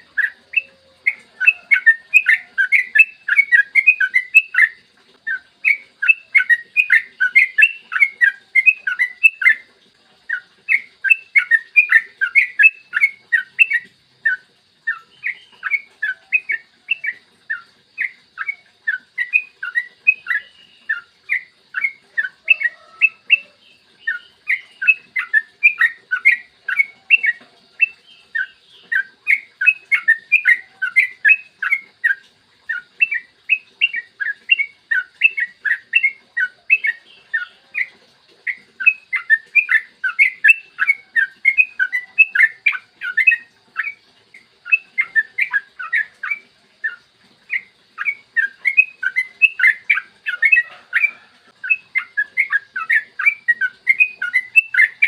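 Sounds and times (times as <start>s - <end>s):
bird chirping rapidly: 0.0s - 9.6s, 10.3s - 55.0s.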